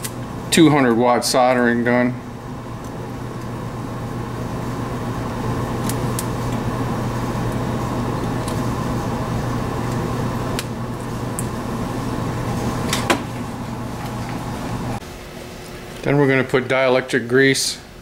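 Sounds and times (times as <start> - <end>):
soldering gun humming: 1.4 - 16.1.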